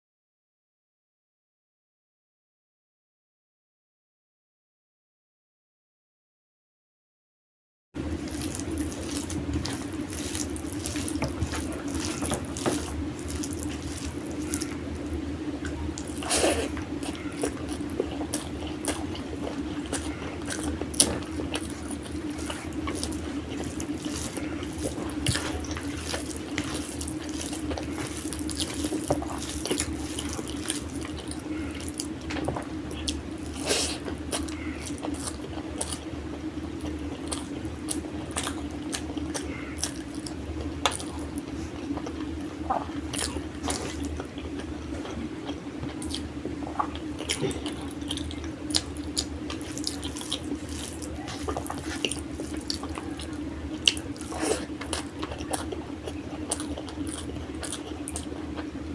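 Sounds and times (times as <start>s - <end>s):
steady low hum: 8.0s - 58.9s
wet chewing and lip smacks: 8.2s - 36.1s, 36.8s - 58.8s.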